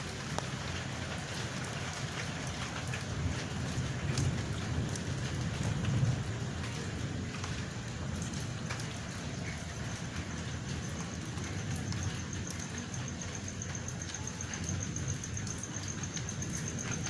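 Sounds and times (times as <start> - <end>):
drops ticking on a surface: 0.0 - 17.0
low thunder rumble: 0.0 - 17.0
steady rain hiss: 0.0 - 17.0.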